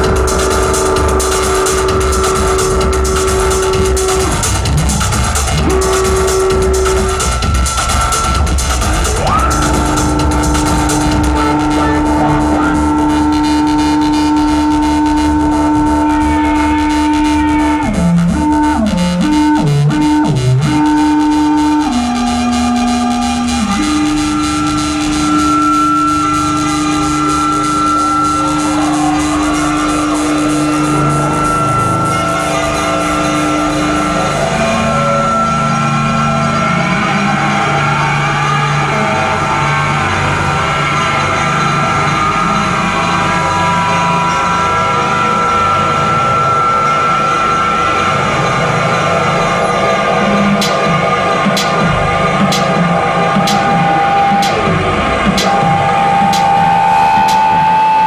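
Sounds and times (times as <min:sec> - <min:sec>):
electronic sliding tone: 0:00.0 - 0:37.8, 0:41.0 - 0:58.0
low electronic pulse: 0:00.0 - 0:58.0.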